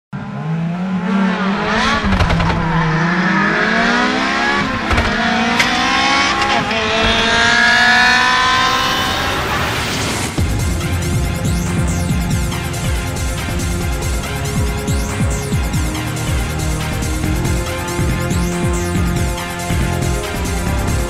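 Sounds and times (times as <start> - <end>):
rally car engine revving: 0.2 - 21.0.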